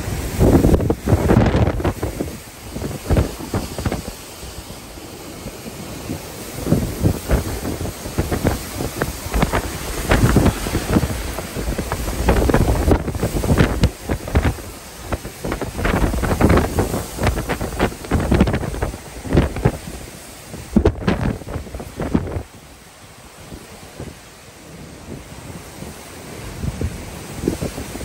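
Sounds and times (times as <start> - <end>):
gusting wind on microphone: 0.0 - 28.0
wind-driven rain: 0.0 - 28.0.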